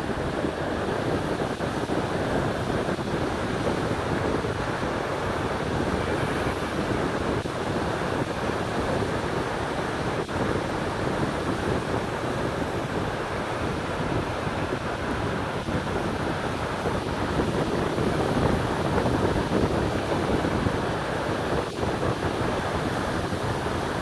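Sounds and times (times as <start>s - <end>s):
water rushing over falls: 0.0s - 24.0s
wind buffeting microphone: 0.0s - 24.0s.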